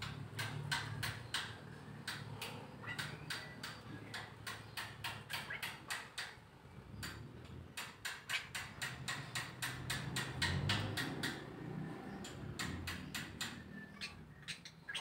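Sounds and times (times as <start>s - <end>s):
birds clicking calls: 0.0s - 15.0s.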